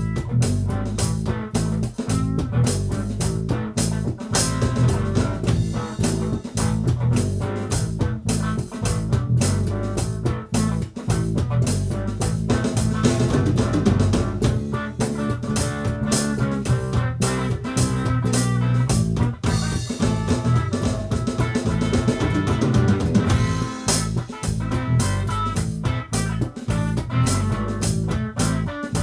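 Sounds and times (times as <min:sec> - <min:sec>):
electric bass line: 0:00.0 - 0:29.0
electric guitar: 0:00.0 - 0:29.0
electronic drum beat: 0:00.0 - 0:29.0.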